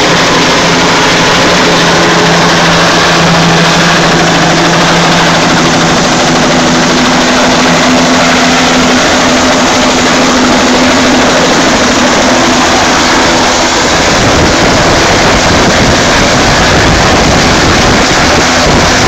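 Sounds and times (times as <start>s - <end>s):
helicopter turbine and rotor noise: 0.0s - 19.0s
rotor downwash rushing: 0.0s - 19.0s.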